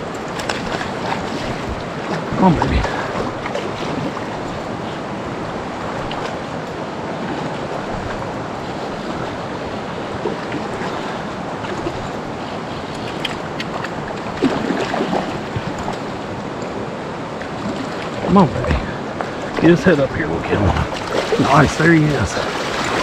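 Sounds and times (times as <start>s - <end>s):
stream water rushing: 0.0s - 23.0s
wind buffeting microphone: 0.0s - 23.0s.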